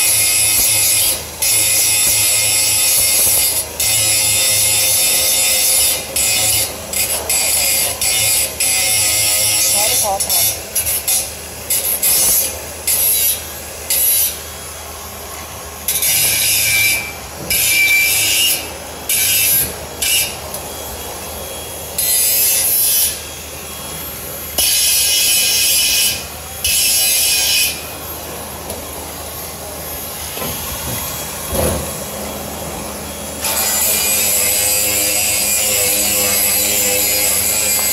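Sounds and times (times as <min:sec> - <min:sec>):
angle grinder cutting steel: 0:00.0 - 0:14.4, 0:15.9 - 0:37.9.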